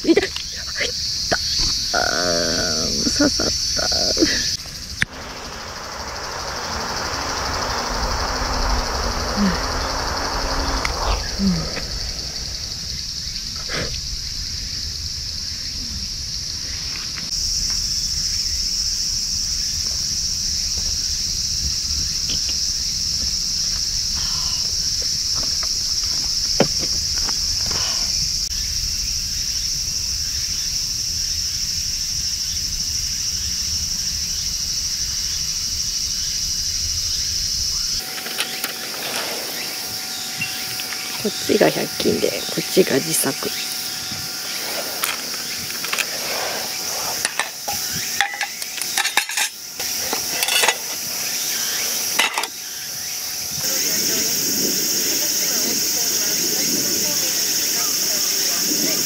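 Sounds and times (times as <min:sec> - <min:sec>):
chorus of forest insects: 0:00.0 - 0:59.0.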